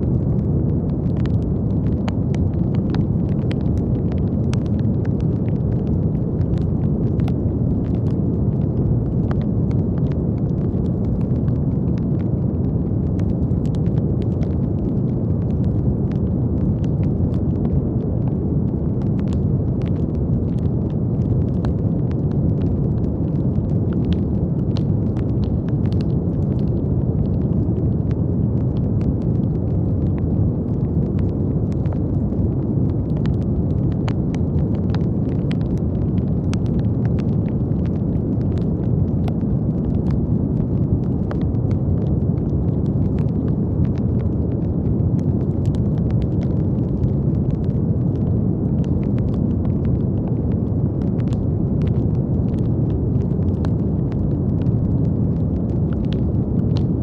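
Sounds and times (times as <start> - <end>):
faint scattered crackles: 0.0 - 57.0.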